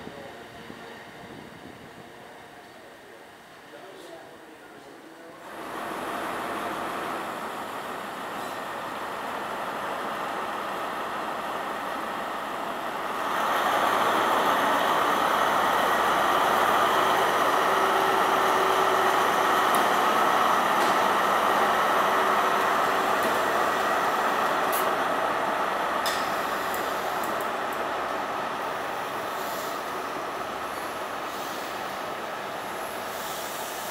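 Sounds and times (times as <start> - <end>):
diesel train engines: 0.0 - 33.9.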